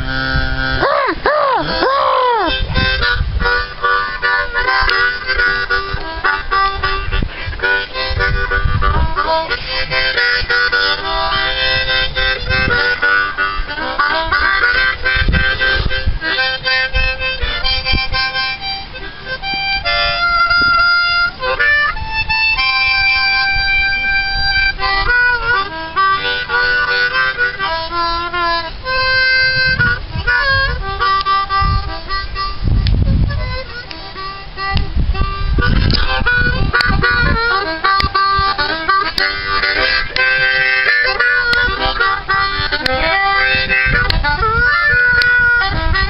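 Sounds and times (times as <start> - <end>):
harmonica playing chords: 0.0 - 46.0.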